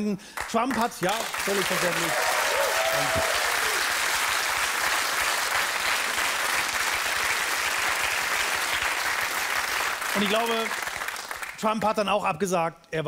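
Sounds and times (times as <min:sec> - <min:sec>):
studio audience applauding: 0:00.0 - 0:12.0.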